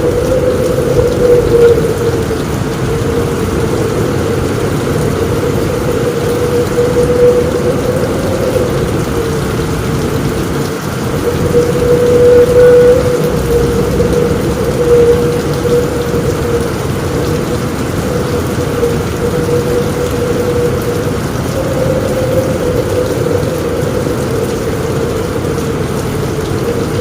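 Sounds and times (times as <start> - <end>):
heavy rain on a roof: 0.0 - 27.0.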